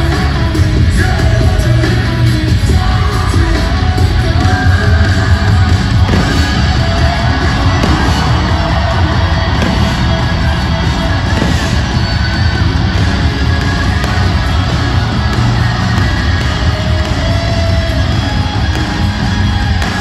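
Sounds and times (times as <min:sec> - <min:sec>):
live rock music with singing: 0:00.0 - 0:20.0.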